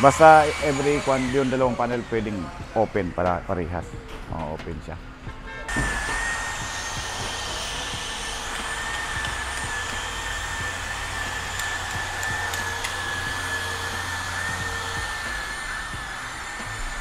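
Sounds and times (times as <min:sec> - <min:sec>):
machine drone with high whine: 0:00.0 - 0:17.0.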